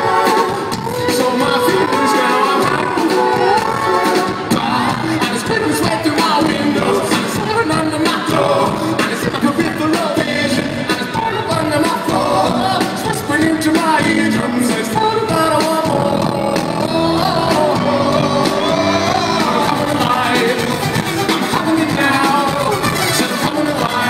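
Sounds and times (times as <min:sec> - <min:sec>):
lead singer singing: 0:00.0 - 0:24.0
rock band playing live: 0:00.0 - 0:24.0.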